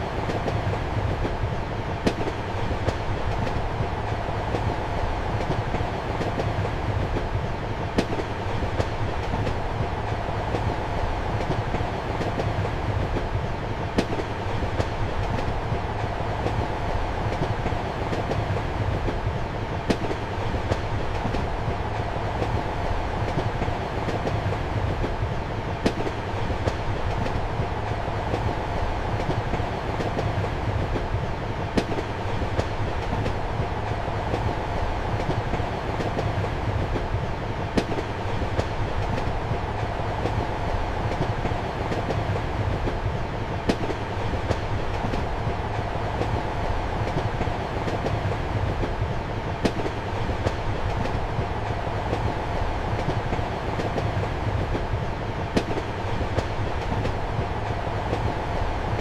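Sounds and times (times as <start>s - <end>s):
train rumble inside compartment: 0.0s - 59.0s.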